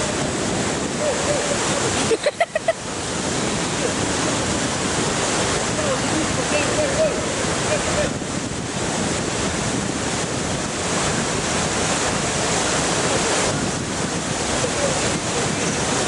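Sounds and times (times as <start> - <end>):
river rapids rushing: 0.0 - 16.0
wind buffeting microphone: 0.0 - 16.0.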